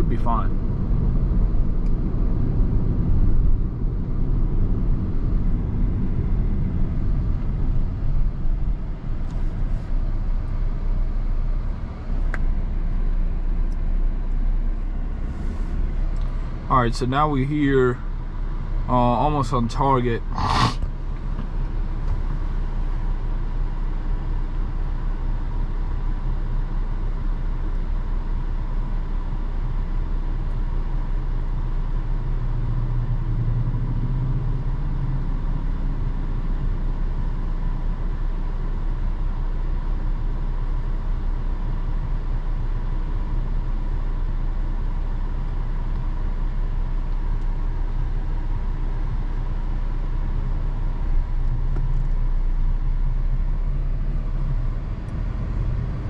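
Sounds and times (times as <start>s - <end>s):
road and engine rumble in car cabin: 0.0s - 56.0s.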